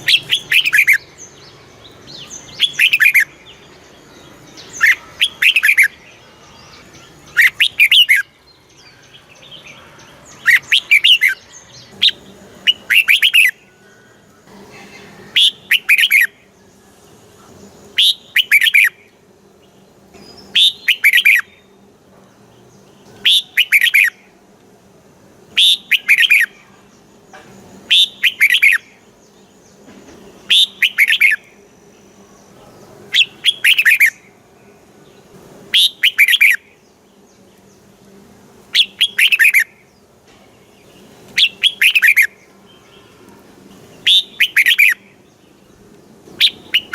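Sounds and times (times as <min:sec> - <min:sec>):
bird singing short phrases: 0:00.0 - 0:13.6, 0:14.8 - 0:16.5, 0:17.9 - 0:21.8, 0:22.8 - 0:24.3, 0:25.5 - 0:27.2, 0:27.8 - 0:29.8, 0:30.4 - 0:31.6, 0:32.2 - 0:34.4, 0:35.2 - 0:37.8, 0:38.7 - 0:46.9.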